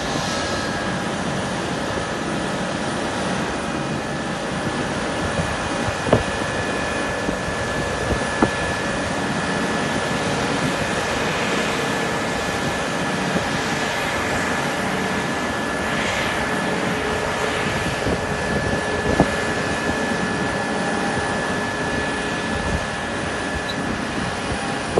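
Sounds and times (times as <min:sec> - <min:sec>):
jet engines whining: 0:00.0 - 0:24.9.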